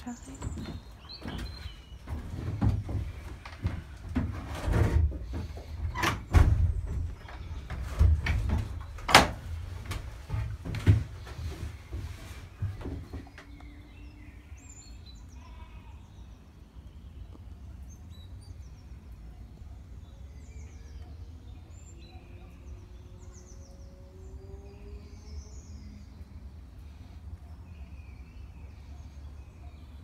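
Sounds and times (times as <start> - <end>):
small birds chirping: 0.0 - 4.2, 5.2 - 30.0.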